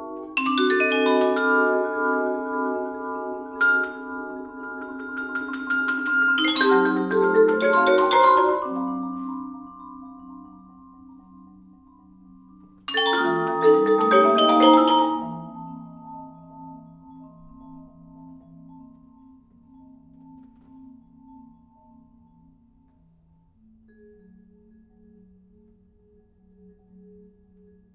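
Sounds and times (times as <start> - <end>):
vibraphone and marimbas cascades: 0.0 - 22.8.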